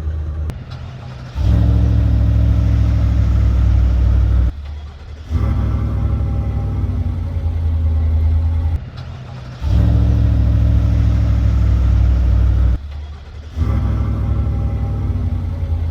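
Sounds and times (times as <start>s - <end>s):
engine exhaust running steadily: 0.0s - 15.9s.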